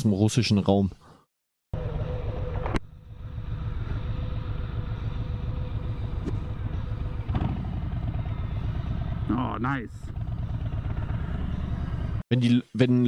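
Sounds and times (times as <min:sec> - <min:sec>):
motorcycle engine idling: 0:01.8 - 0:12.2.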